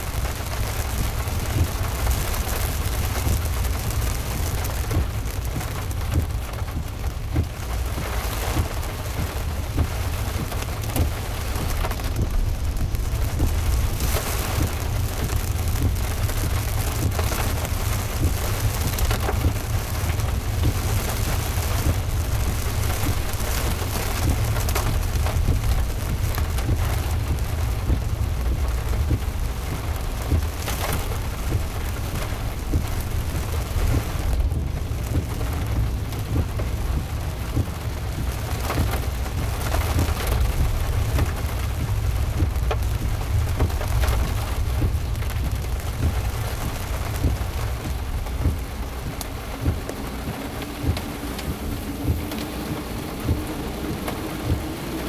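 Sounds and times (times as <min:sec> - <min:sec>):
heavy rain on a car: 0:00.0 - 0:55.0
low car rumble: 0:00.0 - 0:55.0.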